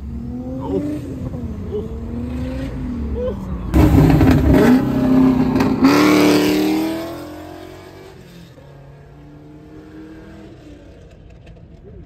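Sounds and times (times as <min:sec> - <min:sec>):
car engine accelerating hard: 0:00.0 - 0:11.5.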